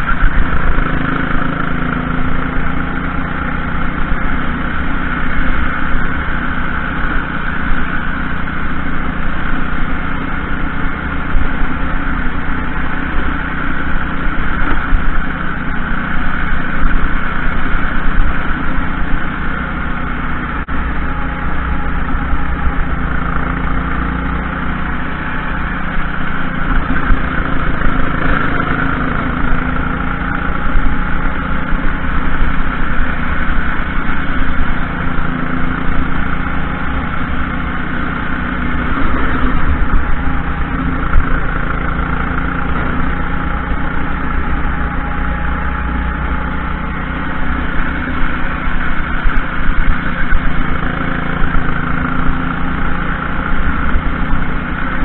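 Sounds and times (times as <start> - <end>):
dense rush of noise: 0.0 - 55.0
kart engine running hard: 0.0 - 55.0.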